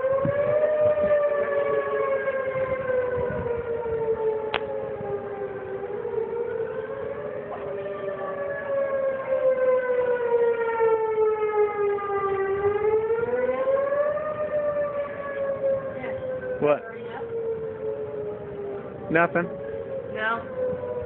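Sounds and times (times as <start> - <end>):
warning sirens wailing: 0.0 - 21.0.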